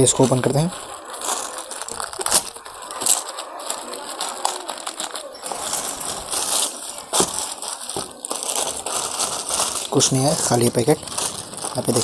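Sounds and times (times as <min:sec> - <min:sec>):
plastic bag crinkling and tearing: 0:00.0 - 0:12.0
plastic crackling: 0:00.0 - 0:12.0.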